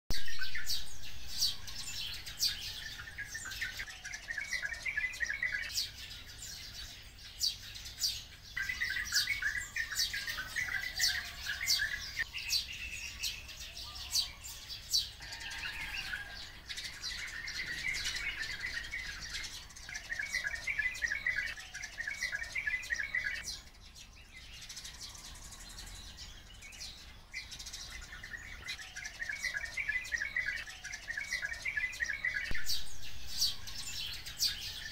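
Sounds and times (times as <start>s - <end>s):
birds chattering trills: 0.1s - 34.9s.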